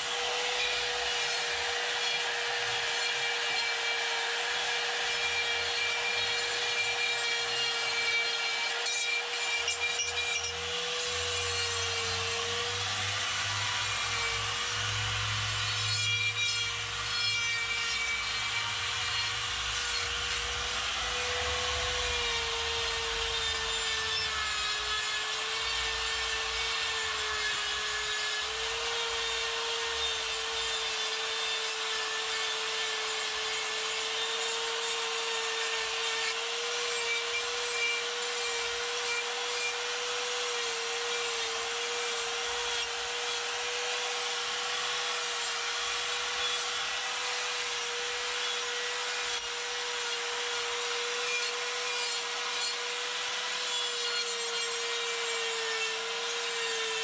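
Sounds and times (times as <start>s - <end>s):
die grinder high whine: 0.0s - 57.0s.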